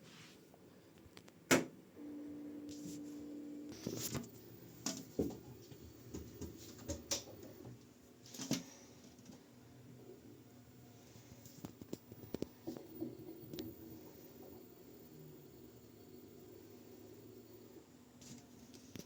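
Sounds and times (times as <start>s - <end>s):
low electrical hum: 1.8s - 19.0s.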